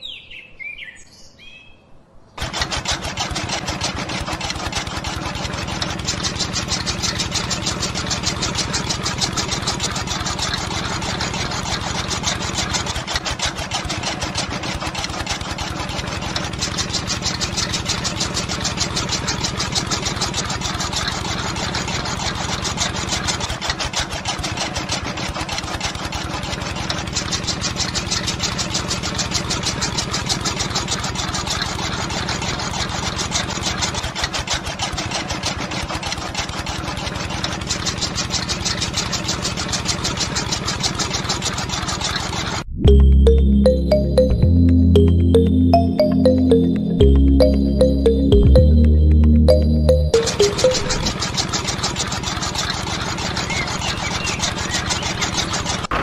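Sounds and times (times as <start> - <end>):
motor running with fast chatter: 2.4 - 42.5, 51.0 - 55.9.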